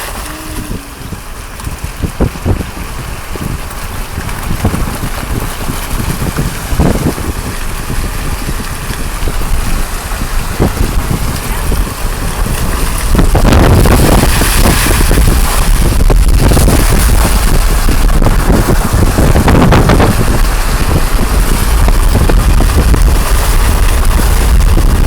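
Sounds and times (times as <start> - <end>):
car driving on road: 0.0 - 25.0
wind buffeting microphone: 0.0 - 25.0.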